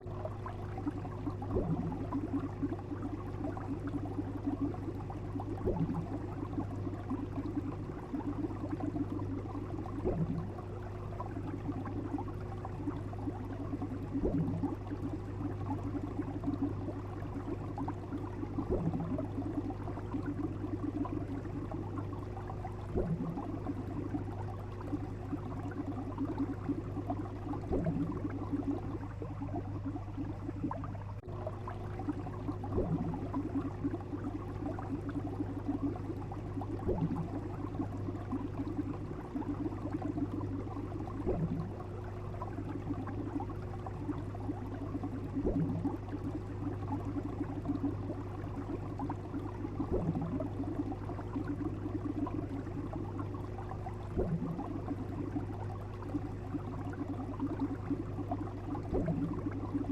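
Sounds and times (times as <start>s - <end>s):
bubbling water: 0.0s - 59.9s
steady low hum: 0.0s - 59.9s.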